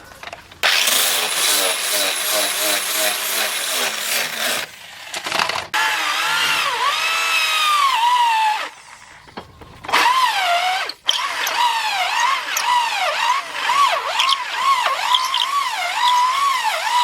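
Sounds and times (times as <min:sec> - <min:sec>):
power grinder grinding steel: 0:00.6 - 0:09.0, 0:09.9 - 0:17.0.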